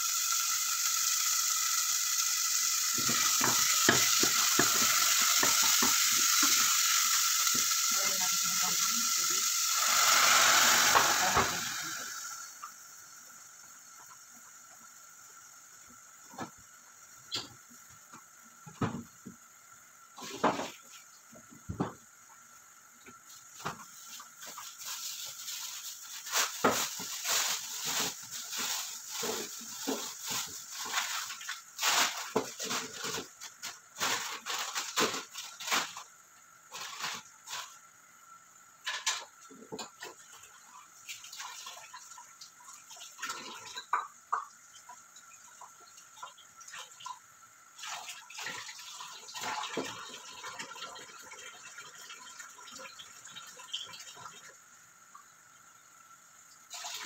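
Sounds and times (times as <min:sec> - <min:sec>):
garlic sizzling in oil: 0:00.0 - 0:46.6.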